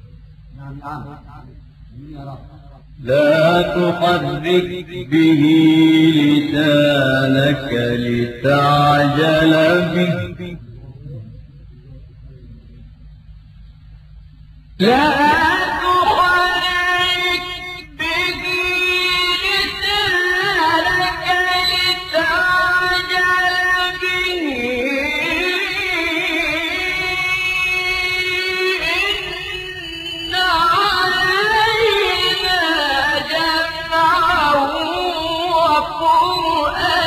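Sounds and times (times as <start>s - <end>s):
person chanting melodically: 0.5s - 12.8s, 14.8s - 37.0s.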